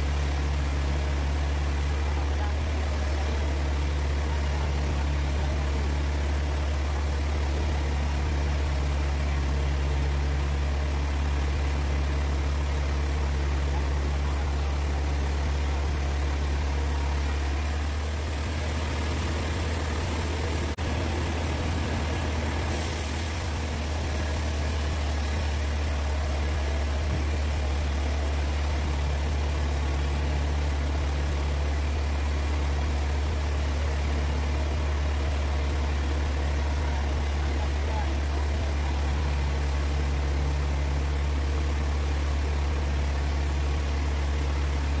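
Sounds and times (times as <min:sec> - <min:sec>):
sawmill machinery humming: 0:00.0 - 0:45.0.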